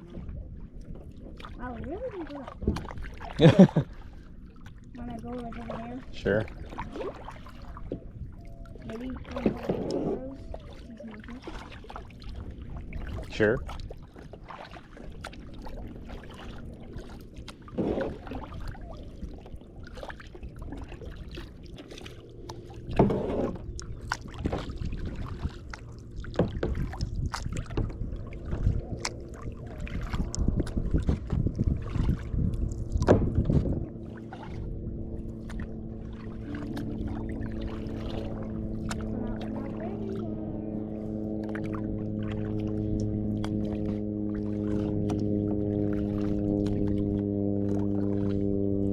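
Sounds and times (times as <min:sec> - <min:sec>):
kayak paddle strokes in water: 0:00.0 - 0:48.9
steady low drone: 0:00.0 - 0:48.9.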